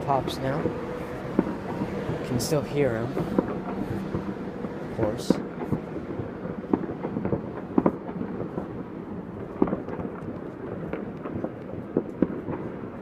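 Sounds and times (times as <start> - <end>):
distant fireworks rumbling: 0.0 - 13.0
fireworks pops and cracks: 0.0 - 13.0.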